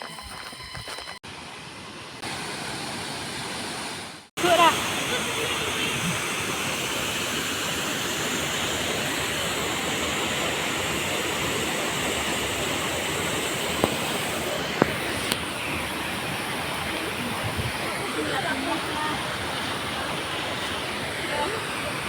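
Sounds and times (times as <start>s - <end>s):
waterfall rushing: 2.2s - 22.0s.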